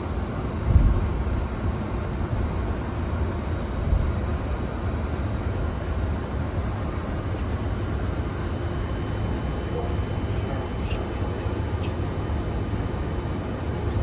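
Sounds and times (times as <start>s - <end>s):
aircraft engines rumble and hiss: 0.0s - 14.0s.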